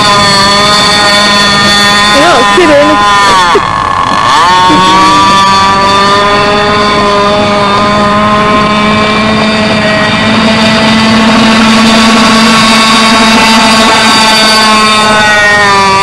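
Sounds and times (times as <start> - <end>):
model boat engine running: 0.0 - 16.0.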